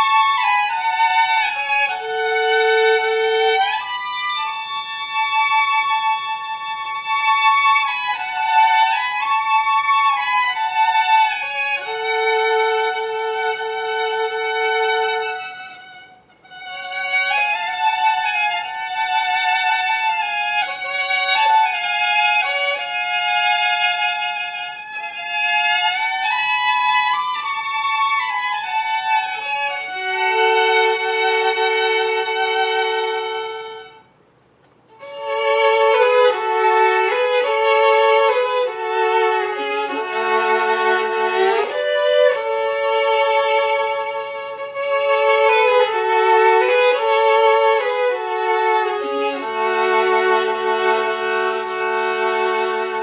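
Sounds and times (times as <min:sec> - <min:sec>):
violin duet folk melody: 0:00.0 - 0:53.0.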